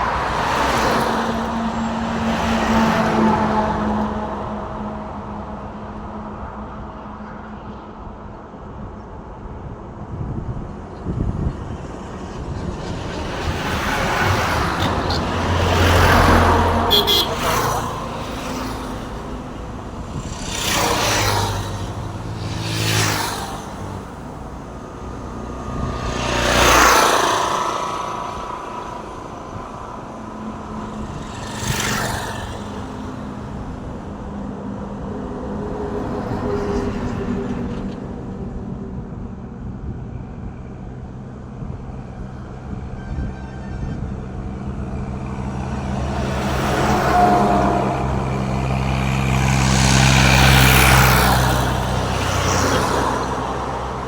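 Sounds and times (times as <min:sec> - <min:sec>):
trucks passing by: 0:00.0 - 0:54.0.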